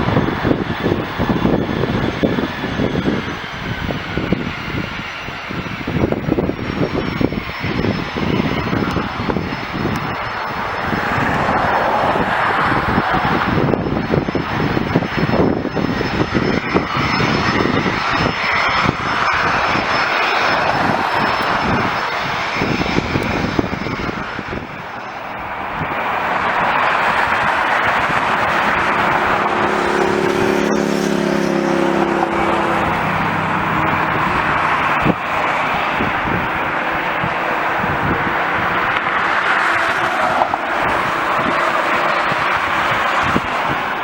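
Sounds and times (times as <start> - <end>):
high whine falling in pitch: 0.0 - 44.0
jet airliner engines passing: 0.0 - 44.0.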